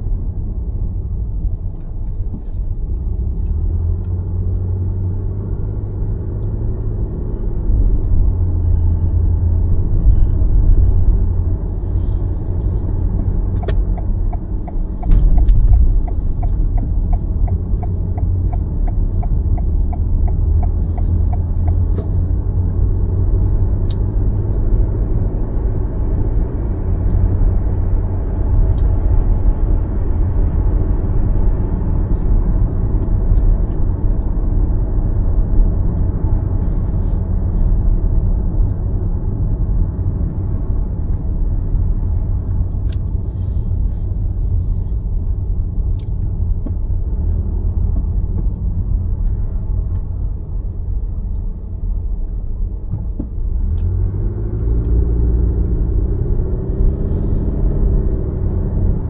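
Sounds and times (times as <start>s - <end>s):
car driving road noise: 0.0s - 59.0s.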